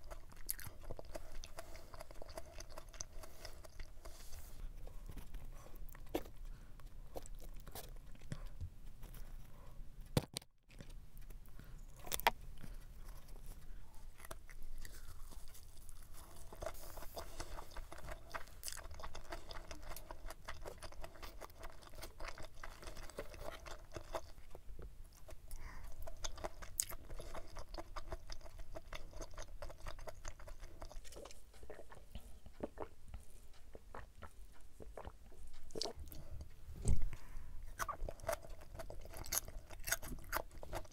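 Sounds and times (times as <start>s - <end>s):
wet chewing with soft crunches: 0.0s - 40.9s.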